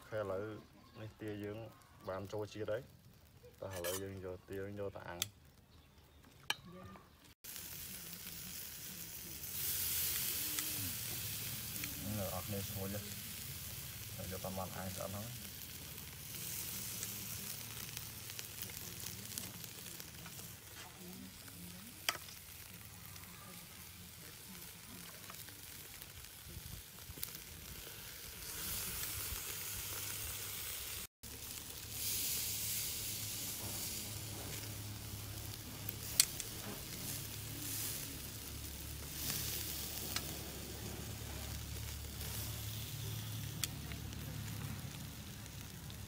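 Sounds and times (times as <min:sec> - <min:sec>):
meat sizzling on a grill: 0:00.0 - 0:46.0.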